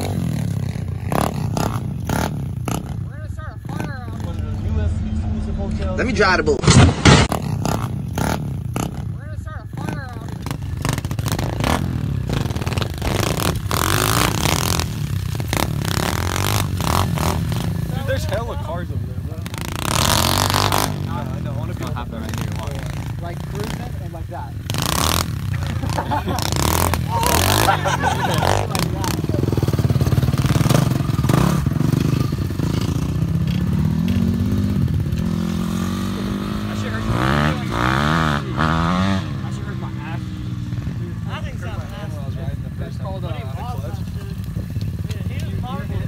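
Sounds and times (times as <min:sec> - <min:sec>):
small motorbike engines revving: 0:00.0 - 0:04.8, 0:06.6 - 0:46.0
crackly rough noise: 0:00.0 - 0:46.0.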